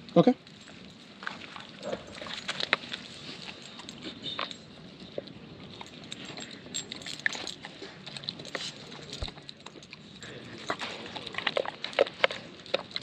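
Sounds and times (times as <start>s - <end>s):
dog chewing and licking: 0.4s - 13.0s.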